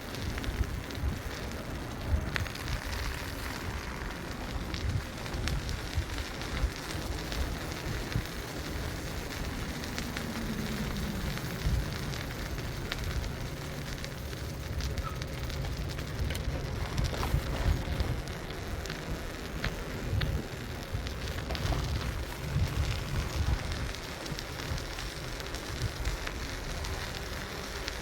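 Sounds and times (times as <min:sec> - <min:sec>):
bicycle road rumble: 0:00.0 - 0:28.0
small clicks and rattles: 0:00.0 - 0:28.0
wind buffeting microphone: 0:00.0 - 0:28.0.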